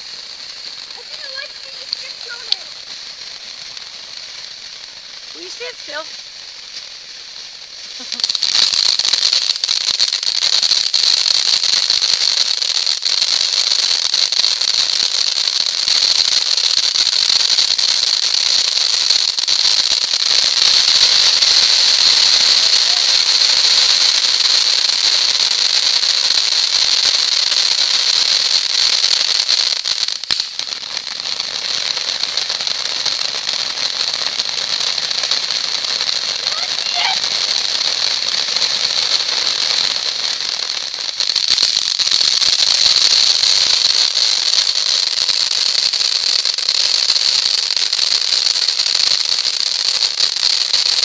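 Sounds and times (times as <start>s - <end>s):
ground fountain firework hissing: 0.0s - 51.0s.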